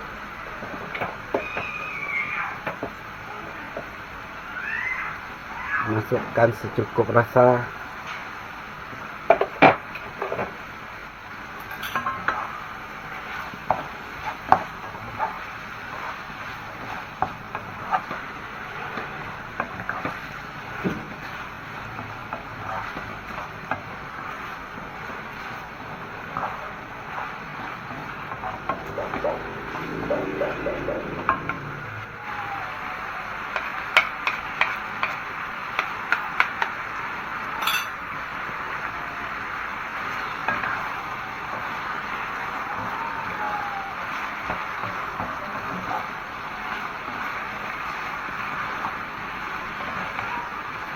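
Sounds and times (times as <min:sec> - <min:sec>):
frying sizzle: 0:00.0 - 0:50.9.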